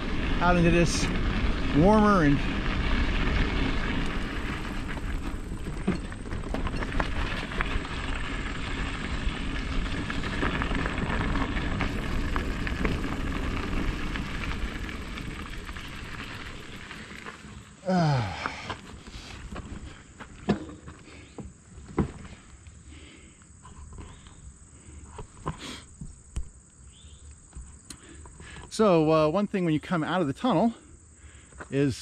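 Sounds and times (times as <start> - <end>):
bike rattling over bumps: 0.0 - 29.4
bicycle tyres rumbling: 0.0 - 29.8, 30.6 - 32.0.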